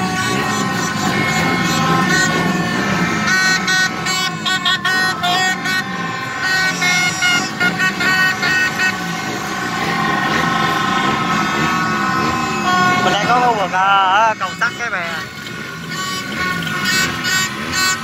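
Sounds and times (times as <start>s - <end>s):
crowd hubbub: 0.0s - 18.0s
horn tooting rapidly: 0.0s - 18.0s
motorbike engines: 0.0s - 18.0s
motorbike horns honking: 0.0s - 18.0s.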